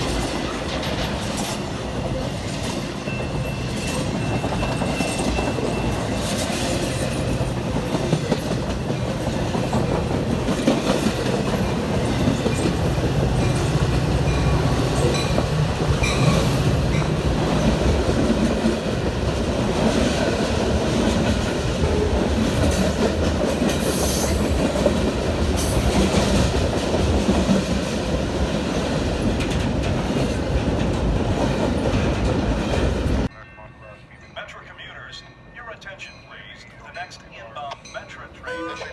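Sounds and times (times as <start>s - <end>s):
train wheels rumbling on rails: 0.0s - 33.3s.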